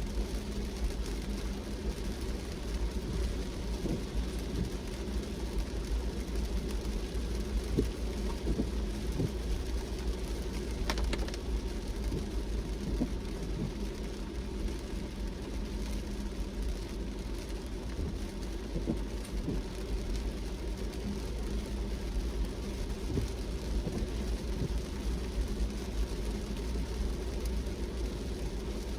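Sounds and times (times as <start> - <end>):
car road rumble: 0.0 - 28.9
raindrops tapping on car: 0.1 - 28.9.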